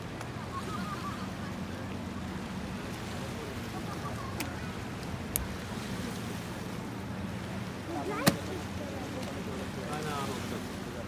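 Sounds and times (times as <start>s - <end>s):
faint distant voices: 0.5s - 11.0s.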